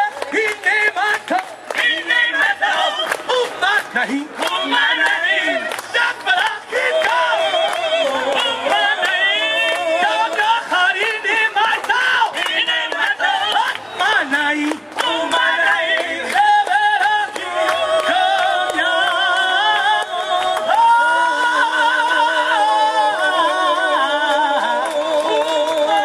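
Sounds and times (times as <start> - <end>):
people clapping along: 0.0 - 26.0
person singing with vibrato: 0.0 - 26.0.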